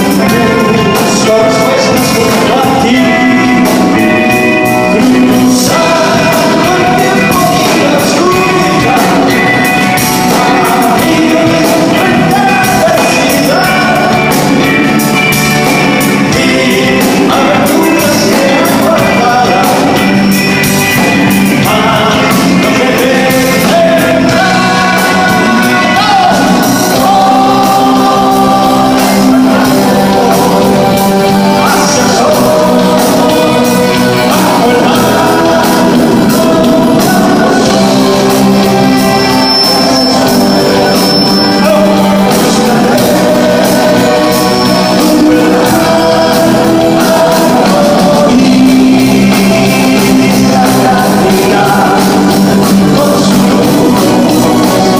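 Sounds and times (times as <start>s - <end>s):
lead singer singing: 0.0s - 54.9s
live rock band playing: 0.0s - 54.9s.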